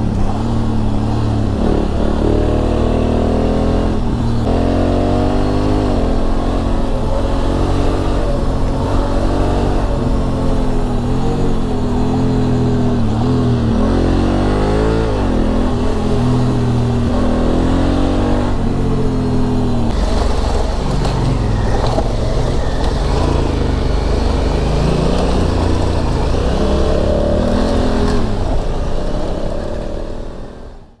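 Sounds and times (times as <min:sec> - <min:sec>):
motorcycle engine revving: 0:00.0 - 0:30.9
wind and road noise: 0:00.0 - 0:31.0.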